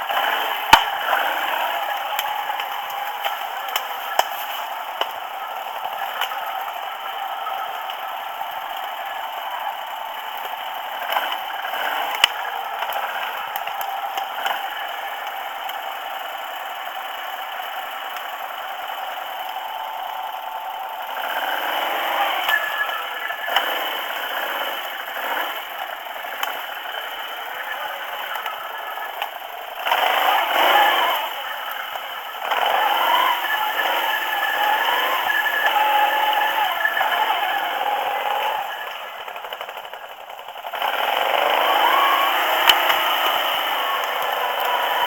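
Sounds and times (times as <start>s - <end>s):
quad bike engine drone: 0.0s - 45.0s.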